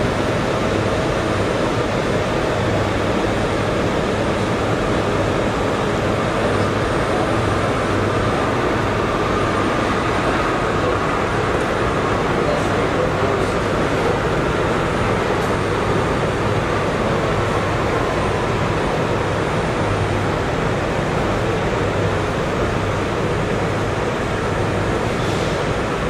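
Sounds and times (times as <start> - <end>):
subway wheels rumbling on rail: 0.0 - 26.0.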